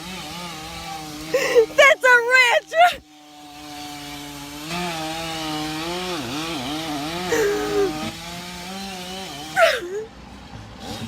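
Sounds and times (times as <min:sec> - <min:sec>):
chainsaw cutting wood: 0:00.0 - 0:10.1, 0:10.8 - 0:11.0.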